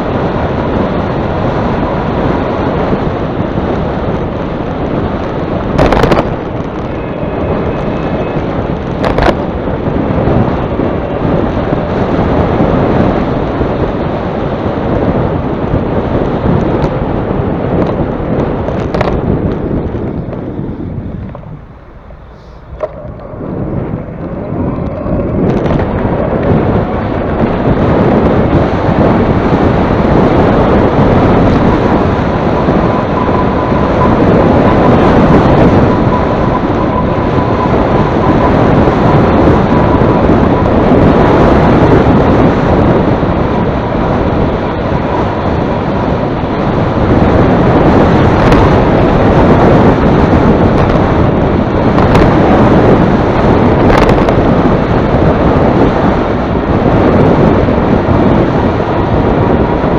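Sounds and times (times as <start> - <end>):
faint steady whine: 0.0 - 59.9
wind buffeting microphone: 0.0 - 59.9.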